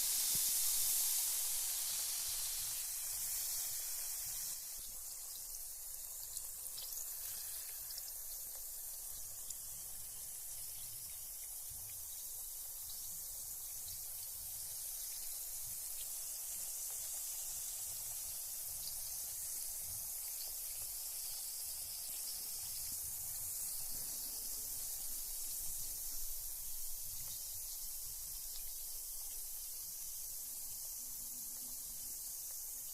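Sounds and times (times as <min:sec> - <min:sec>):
bath bomb fizzing in water: 0:00.0 - 0:32.9.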